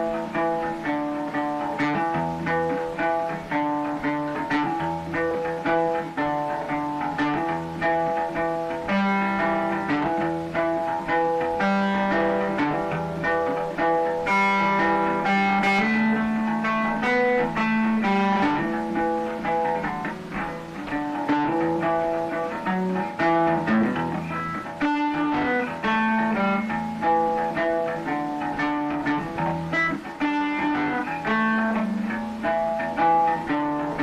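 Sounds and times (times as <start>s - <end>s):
plucked guitar melody: 0.0s - 34.0s.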